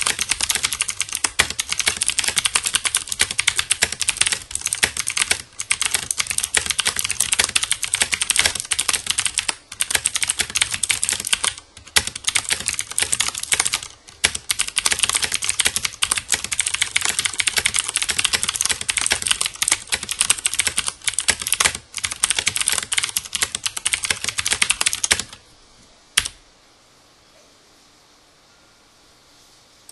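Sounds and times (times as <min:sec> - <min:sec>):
clicky mechanical keyboard typing: 0:00.0 - 0:25.4, 0:26.2 - 0:26.4.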